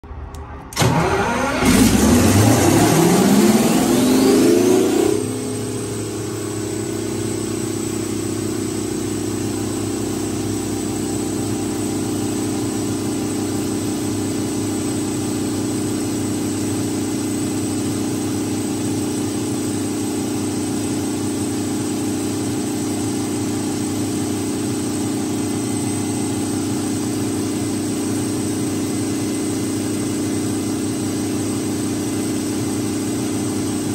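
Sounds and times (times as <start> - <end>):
diesel engine starting and running: 0.0 - 33.9.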